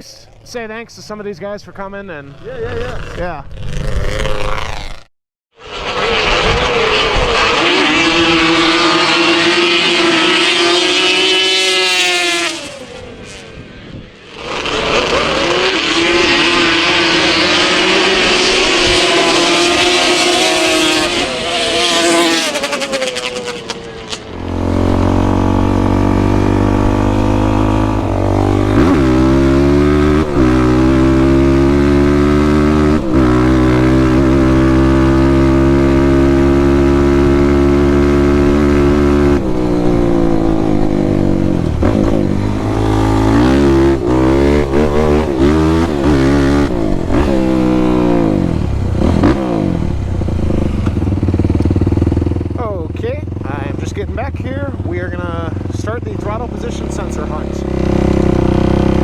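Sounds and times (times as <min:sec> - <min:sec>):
quad engine revving: 0:05.6 - 0:13.5, 0:14.2 - 0:59.0.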